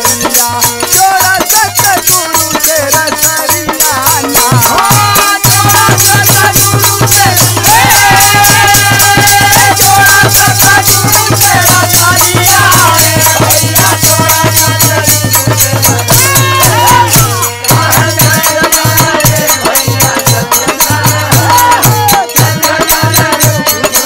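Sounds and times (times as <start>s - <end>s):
harmonium melody: 0.0s - 24.0s.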